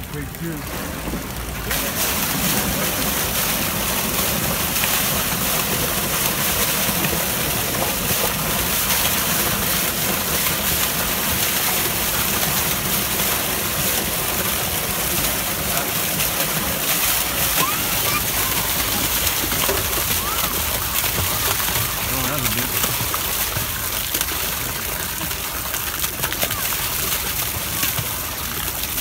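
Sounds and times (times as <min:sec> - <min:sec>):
water gushing and splashing: 0:00.0 - 0:29.0.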